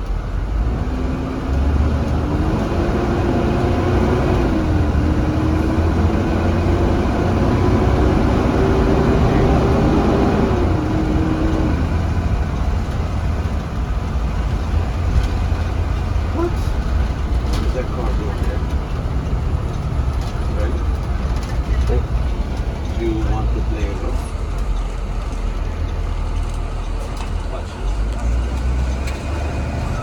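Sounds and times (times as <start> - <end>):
bus engine pulling away: 0.0 - 30.0.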